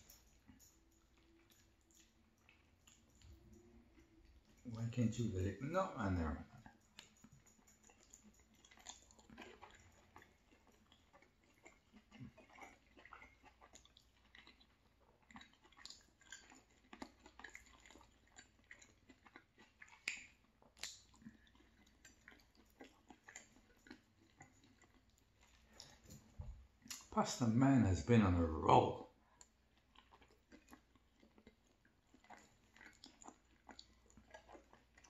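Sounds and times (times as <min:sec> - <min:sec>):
close-up chewing: 0:00.0 - 0:27.4, 0:28.2 - 0:35.0.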